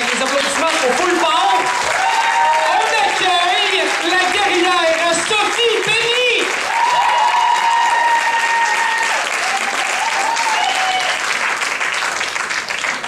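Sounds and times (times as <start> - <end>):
people cheering: 0.0 - 12.2
audience applauding: 0.0 - 13.0.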